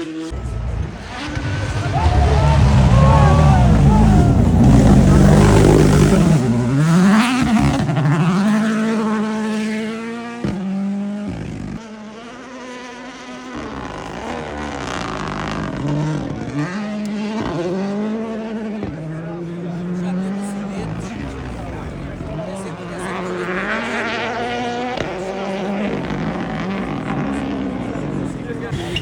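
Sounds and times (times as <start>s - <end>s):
rally car engine at full throttle: 0.0s - 29.0s.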